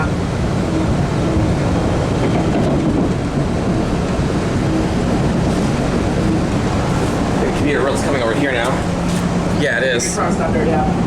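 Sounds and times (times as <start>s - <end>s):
subway car rumble: 0.0s - 11.0s.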